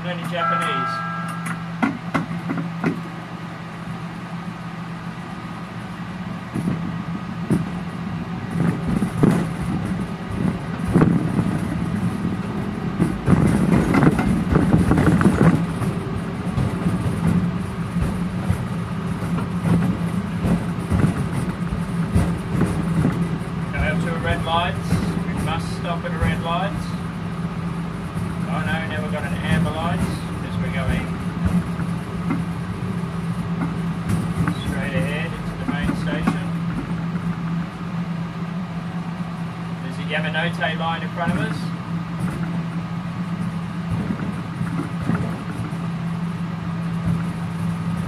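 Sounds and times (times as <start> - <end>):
wheels clacking on rails: 0.0 - 4.1, 5.2 - 48.0
train motor hum: 0.0 - 48.0.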